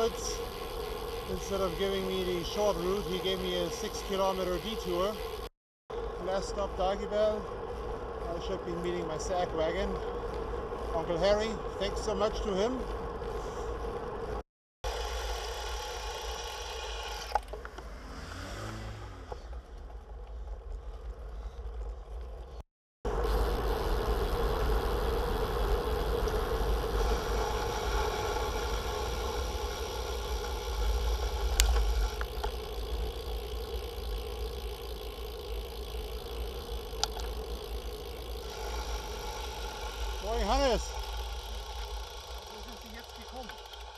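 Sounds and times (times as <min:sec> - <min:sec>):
tyres humming on asphalt: 0:00.0 - 0:43.9.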